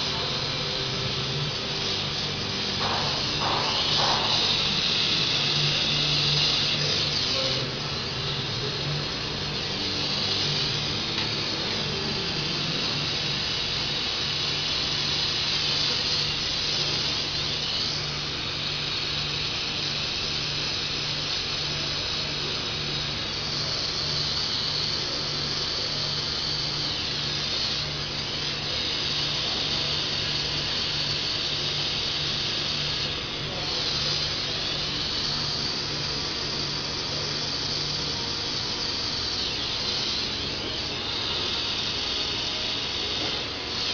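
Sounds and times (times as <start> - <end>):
high hiss: 0.0 - 43.9
machinery pulsing hum: 0.0 - 43.9.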